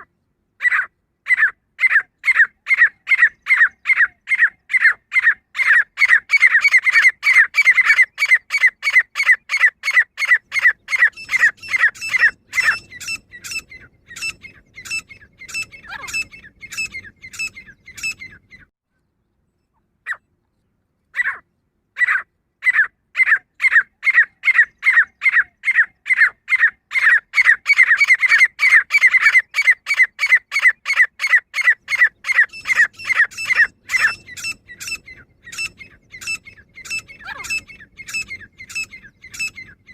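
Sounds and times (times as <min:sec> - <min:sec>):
francolin calling: 0:00.6 - 0:18.7, 0:22.0 - 0:39.9.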